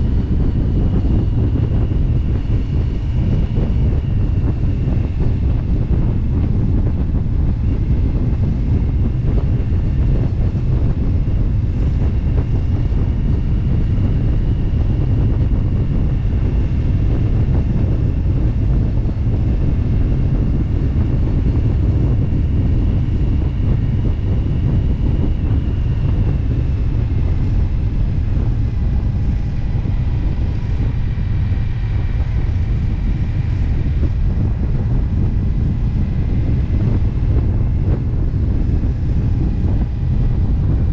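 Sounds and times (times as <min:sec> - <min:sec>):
motorcycle engine and road rumble: 0:00.0 - 0:40.9
wind buffeting microphone: 0:00.0 - 0:40.9.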